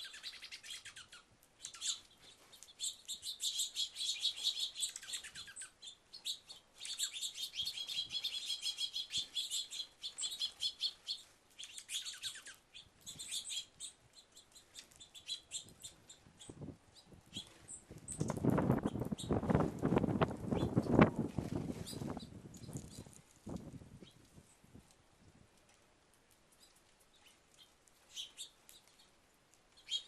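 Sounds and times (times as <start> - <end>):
small birds chirping: 0.0 - 25.4, 26.3 - 30.0.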